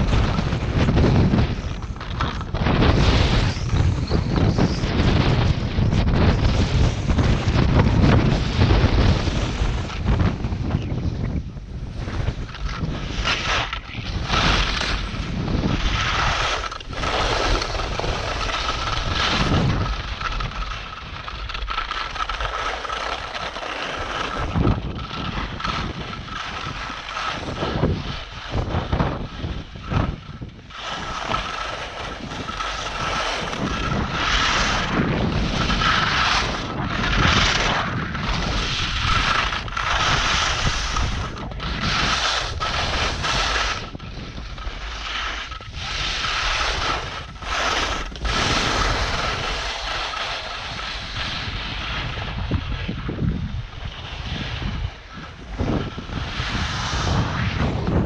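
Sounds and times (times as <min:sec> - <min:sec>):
skis scraping over snow: 0:00.0 - 0:58.0
wind rushing over microphone: 0:00.0 - 0:58.0.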